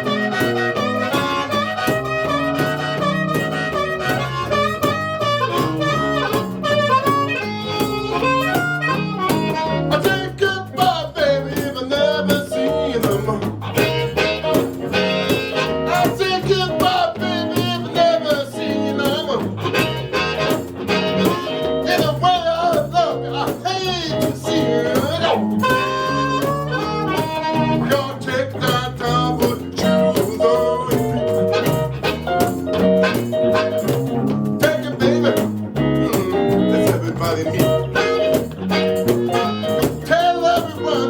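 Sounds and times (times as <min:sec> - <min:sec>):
blues band playing: 0:00.0 - 0:41.0
blues harmonica: 0:00.0 - 0:41.0
guitar: 0:00.0 - 0:41.0.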